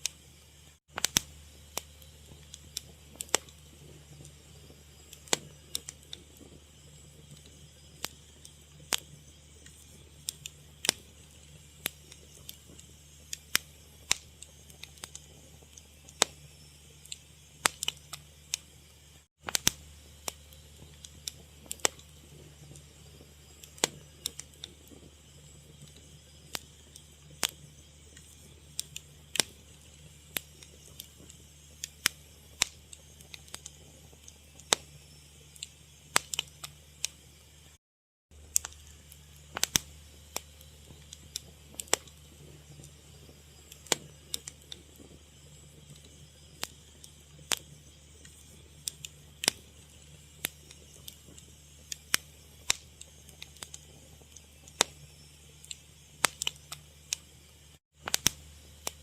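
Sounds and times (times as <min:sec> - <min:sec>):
low steady hum: 0:00.0 - 0:37.8, 0:38.4 - 0:59.0
fire crackling: 0:00.0 - 0:59.0.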